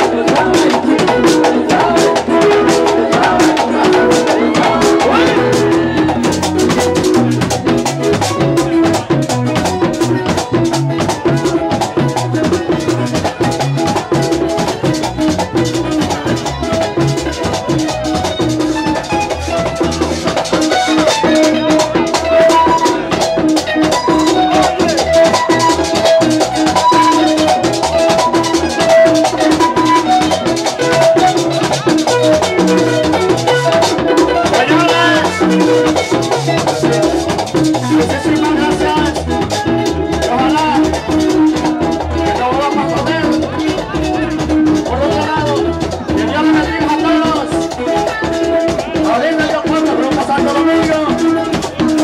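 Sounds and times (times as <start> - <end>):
latin dance music: 0.0 - 52.0
steady drum beat: 0.0 - 52.0.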